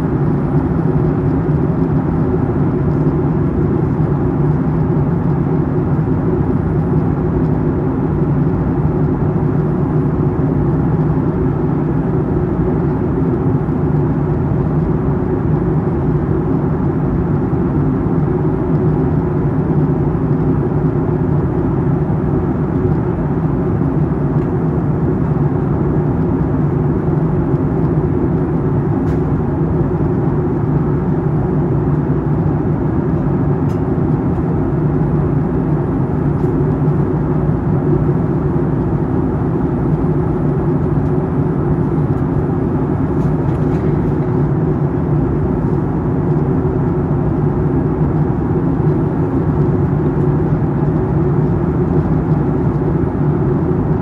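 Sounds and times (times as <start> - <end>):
airliner cabin engine roar: 0.0 - 54.0.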